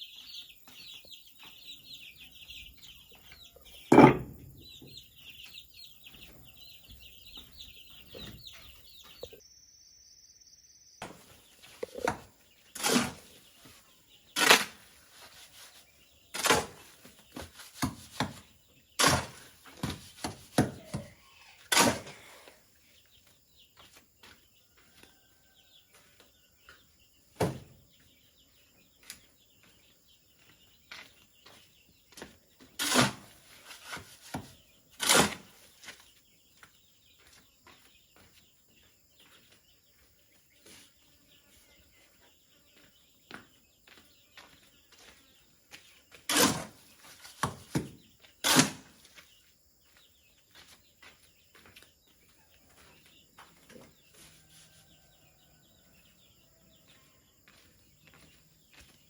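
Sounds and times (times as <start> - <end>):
light birdsong: 0.0 - 59.0.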